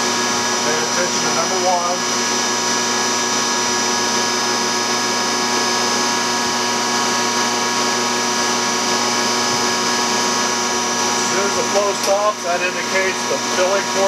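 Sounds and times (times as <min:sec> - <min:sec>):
pump test stand hum and whine: 0:00.0 - 0:14.0.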